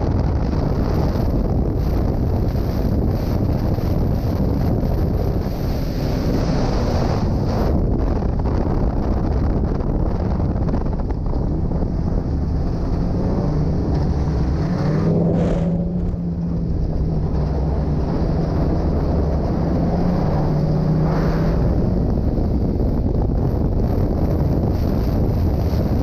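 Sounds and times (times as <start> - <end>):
snowmobile engine running: 0.0 - 26.0
wind buffeting microphone: 0.0 - 26.0.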